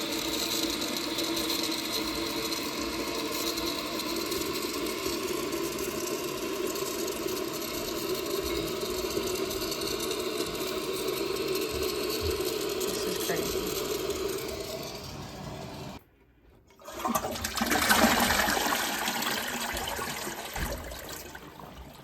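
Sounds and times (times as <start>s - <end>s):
water filling toilet tank: 0.0s - 16.0s, 16.7s - 22.0s.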